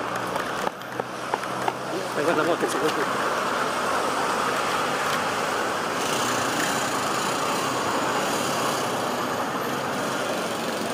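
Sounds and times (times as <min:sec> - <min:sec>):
road traffic noise: 0:00.0 - 0:10.9.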